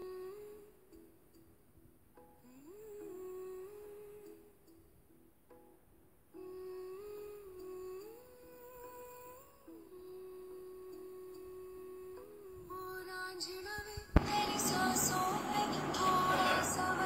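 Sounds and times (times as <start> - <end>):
person humming a melody: 0.0 - 1.1, 2.4 - 4.5, 6.3 - 17.0.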